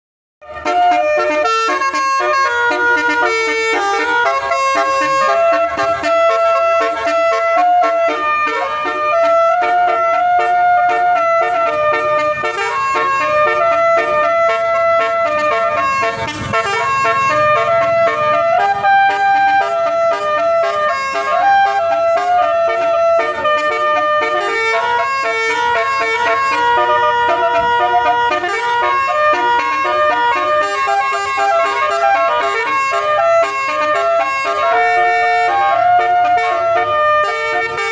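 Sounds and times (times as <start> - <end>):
musical air horn melody: 0.4 - 37.9.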